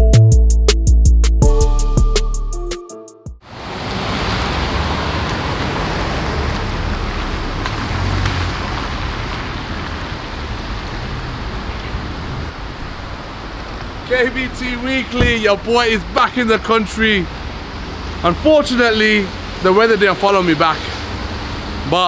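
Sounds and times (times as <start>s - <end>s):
rain hissing: 3.5s - 21.9s.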